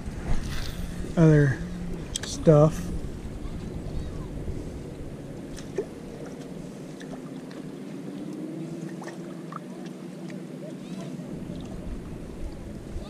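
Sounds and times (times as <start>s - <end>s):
faint steady hum: 0.0s - 13.0s
wind rumbling on microphone: 0.0s - 13.0s.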